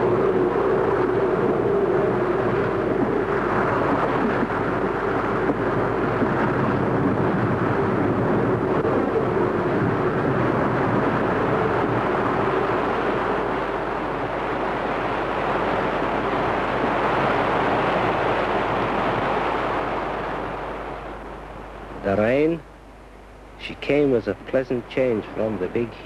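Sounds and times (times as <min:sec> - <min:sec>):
rough sea: 0:00.0 - 0:26.0
wind roaring: 0:00.0 - 0:26.0.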